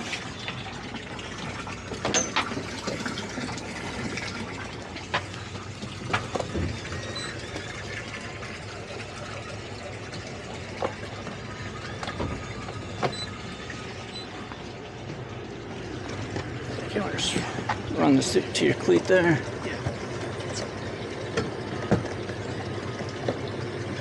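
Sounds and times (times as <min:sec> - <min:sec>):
boat engine idling: 0:00.0 - 0:24.0
water sloshing against hulls: 0:00.0 - 0:24.0.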